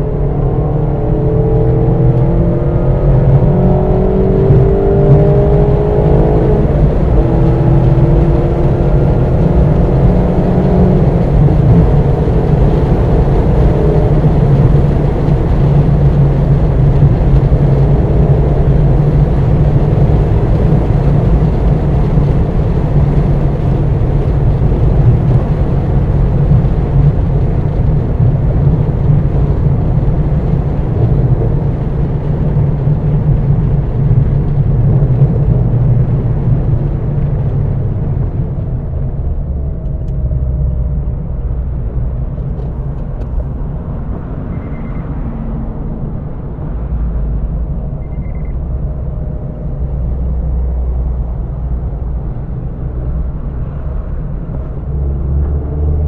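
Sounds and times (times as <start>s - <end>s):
car engine droning: 0.0s - 56.0s
tyre and wind noise: 0.0s - 56.0s.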